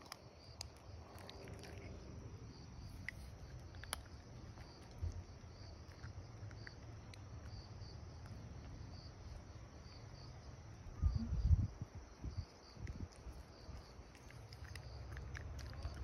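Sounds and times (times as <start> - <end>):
faint insect chirping: 0.0 - 16.0.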